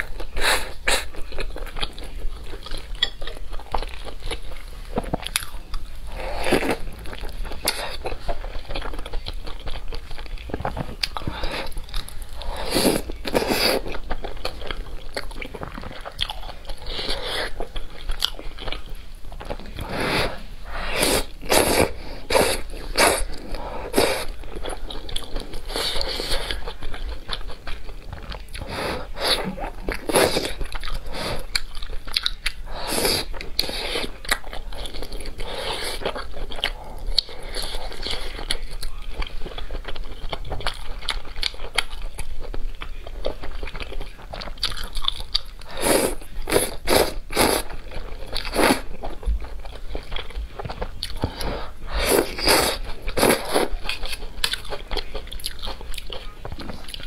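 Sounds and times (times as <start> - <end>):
person chewing and biting food: 0.0 - 57.0.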